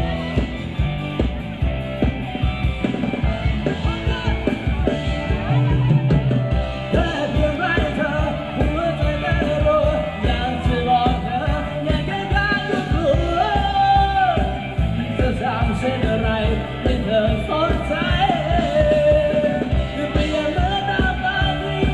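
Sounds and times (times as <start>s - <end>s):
live band dance song: 0.0s - 21.9s
steady drum beat: 0.0s - 21.9s
person singing: 3.4s - 21.9s.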